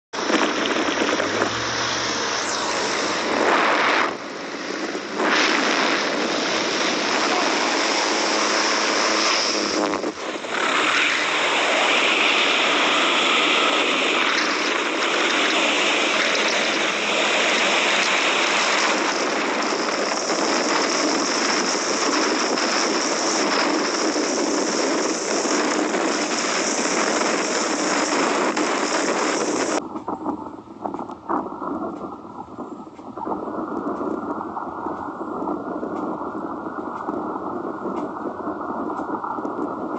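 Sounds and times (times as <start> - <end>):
propeller engine noise: 0.1 - 39.9
rush of wind: 0.1 - 39.9.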